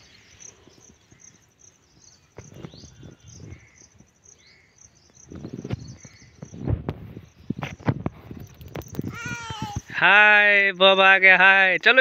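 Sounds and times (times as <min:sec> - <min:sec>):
insects trilling: 0:00.0 - 0:09.9.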